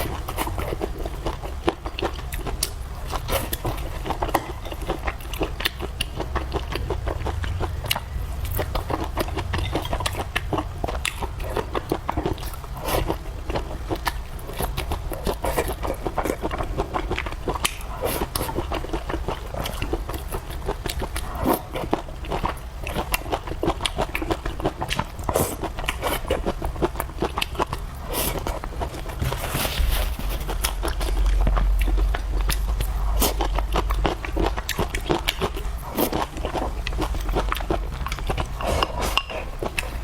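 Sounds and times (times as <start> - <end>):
person chewing food: 0.0 - 40.0
steady low hum: 0.0 - 40.0.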